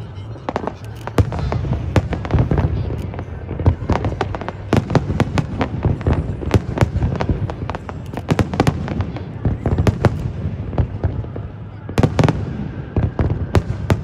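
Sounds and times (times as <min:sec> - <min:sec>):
aerial fireworks bursting: 0:00.0 - 0:14.0.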